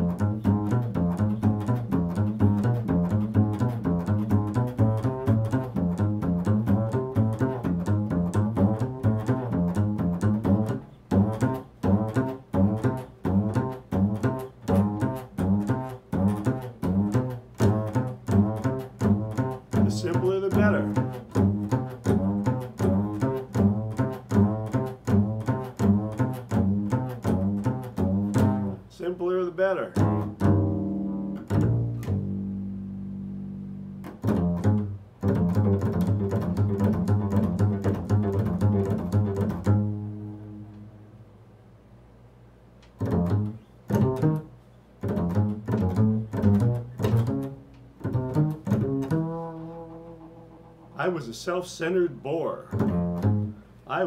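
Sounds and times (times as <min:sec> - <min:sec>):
double bass plucked: 0:00.0 - 0:54.0.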